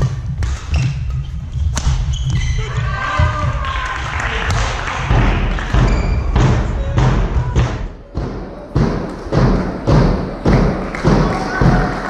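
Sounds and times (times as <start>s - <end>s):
heavy rhythmic thumps: 0.0s - 12.0s.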